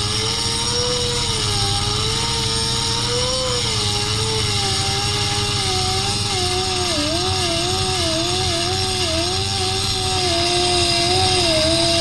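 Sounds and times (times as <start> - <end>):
rotary tool grinding metal: 0.0 - 12.0.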